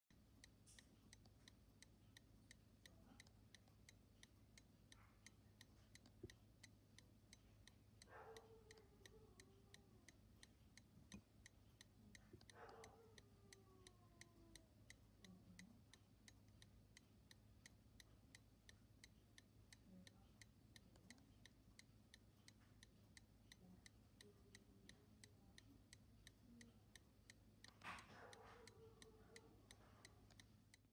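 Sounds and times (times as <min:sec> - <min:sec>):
clock ticking: 0:00.0 - 0:30.9.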